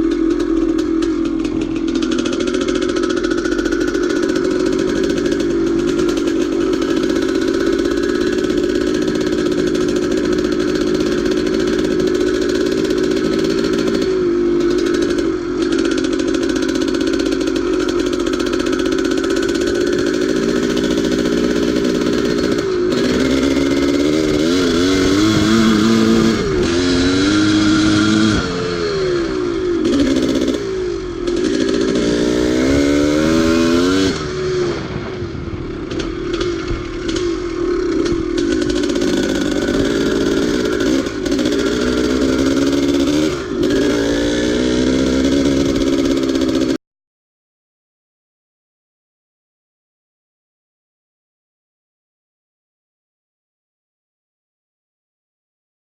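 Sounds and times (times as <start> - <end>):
dirt bike engine revving: 0.0 - 46.8.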